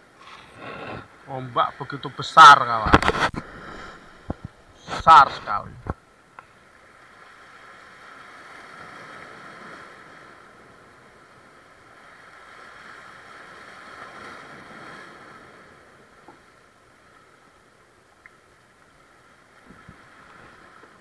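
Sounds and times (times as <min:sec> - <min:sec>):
sea surf washing against rocks: 0:00.0 - 0:06.0, 0:06.8 - 0:17.4, 0:19.2 - 0:21.0.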